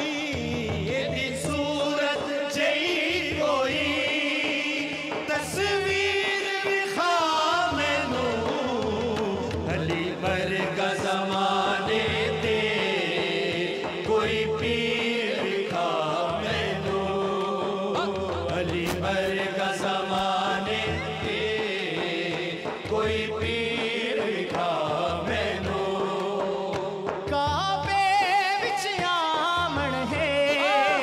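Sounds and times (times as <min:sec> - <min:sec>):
male vocal group singing: 0:00.0 - 0:31.0.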